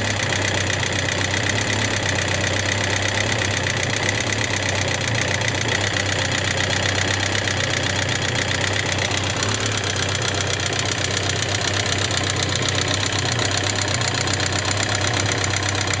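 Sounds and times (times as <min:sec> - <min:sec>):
fast clattering engine tick: 0:00.0 - 0:16.0
motorcycle engine running: 0:00.0 - 0:16.0.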